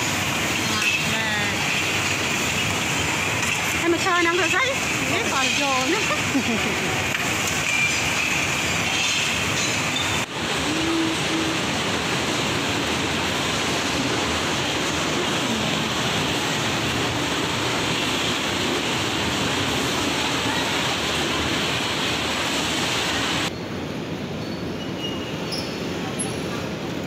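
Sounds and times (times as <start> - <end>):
fans running: 0.0 - 24.4.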